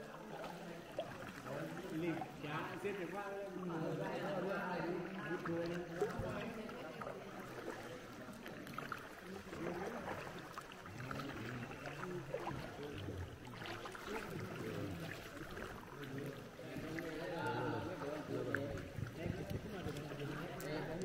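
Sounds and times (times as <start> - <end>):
faint chatter of voices: 0.0 - 21.0
paddle splashing in water: 0.0 - 21.0.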